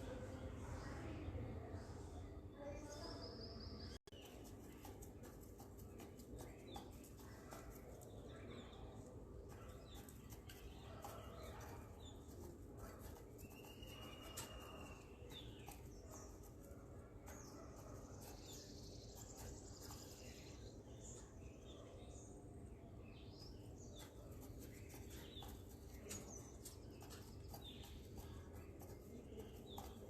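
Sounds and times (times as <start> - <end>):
small bird chirps: 2.6 - 30.0.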